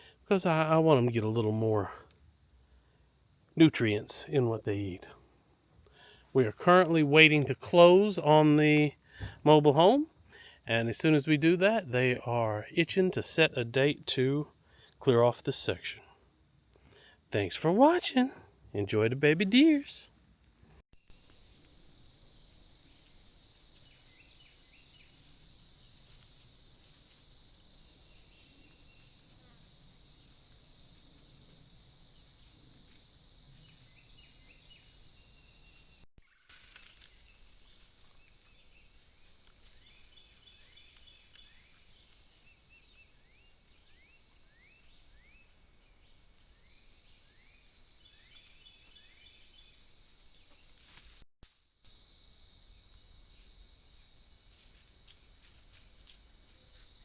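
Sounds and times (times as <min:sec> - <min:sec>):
insects trilling: 0:00.0 - 0:51.2, 0:51.8 - 0:57.0.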